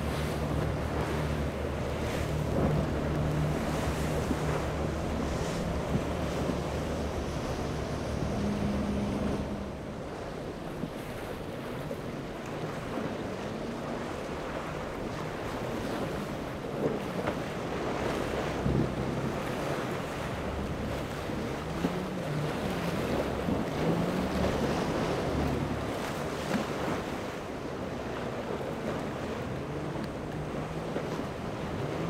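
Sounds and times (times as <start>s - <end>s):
boat engines droning: 0.0s - 32.0s
water splashes: 0.0s - 32.0s
waves breaking: 0.0s - 32.0s
wind buffeting microphone: 0.0s - 32.0s.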